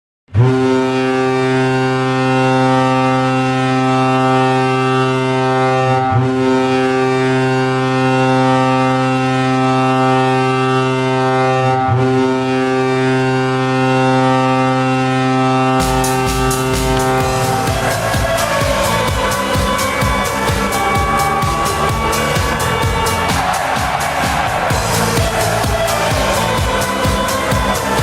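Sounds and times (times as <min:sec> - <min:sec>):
arena goal horn blasts: 0:00.3 - 0:28.0.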